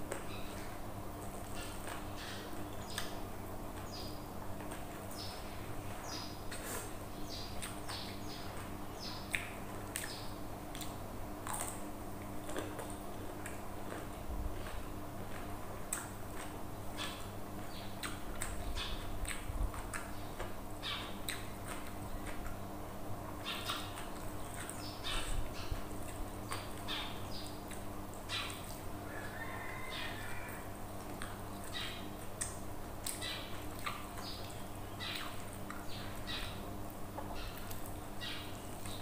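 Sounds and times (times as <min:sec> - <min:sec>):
chewing and lip-smacking: 0:00.0 - 0:22.6, 0:23.5 - 0:29.4, 0:30.5 - 0:38.0
low steady hum: 0:00.0 - 0:39.0.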